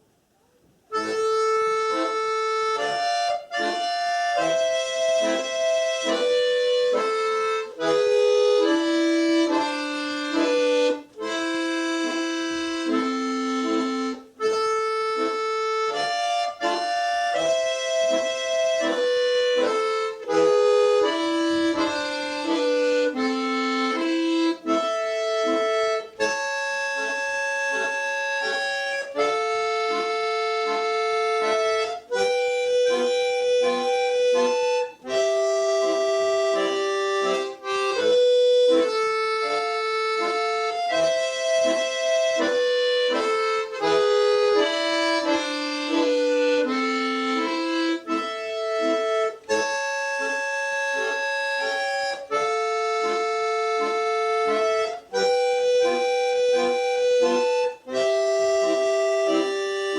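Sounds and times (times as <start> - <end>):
accordion playing: 0.8 - 59.9.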